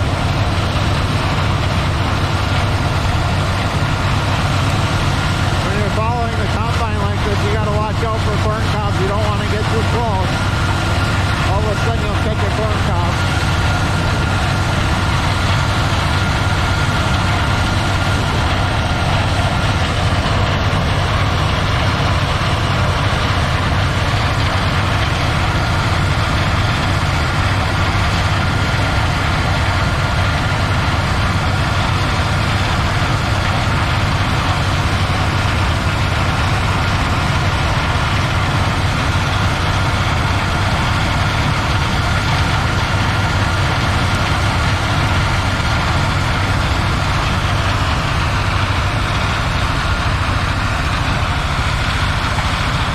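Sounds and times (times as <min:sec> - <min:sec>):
diesel engine drone: 0:00.0 - 0:52.9
high machine whine: 0:00.0 - 0:52.9.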